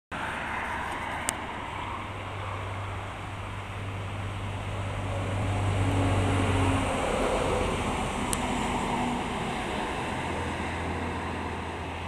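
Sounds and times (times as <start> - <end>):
low engine hum: 0.1 - 12.0
road traffic noise: 0.1 - 12.0.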